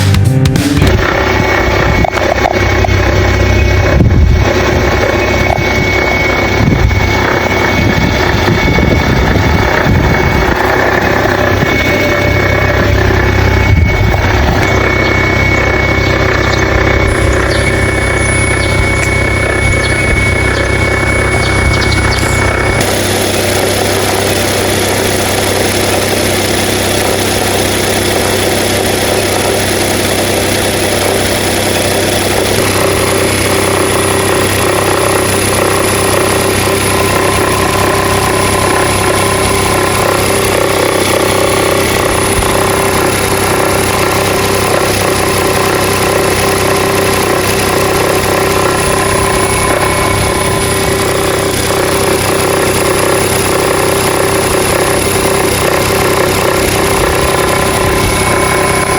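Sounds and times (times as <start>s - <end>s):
car engine running: 0.0s - 58.9s.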